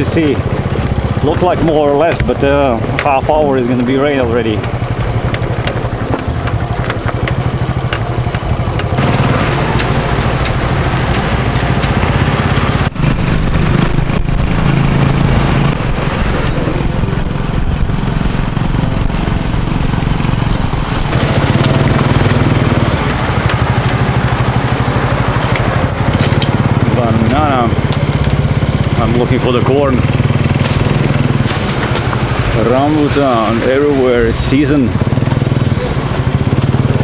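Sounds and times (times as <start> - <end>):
road noise: 0.0 - 37.0
rushing wind: 0.0 - 37.0
small motorcycle engine running: 0.0 - 37.0.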